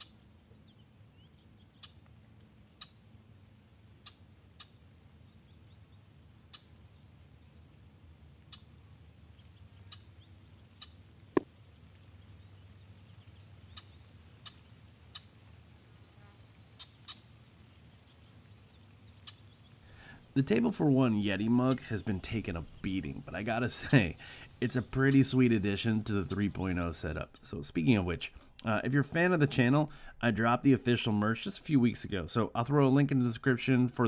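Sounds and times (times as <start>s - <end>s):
small birds chirping: 0.0s - 15.5s, 16.2s - 30.1s.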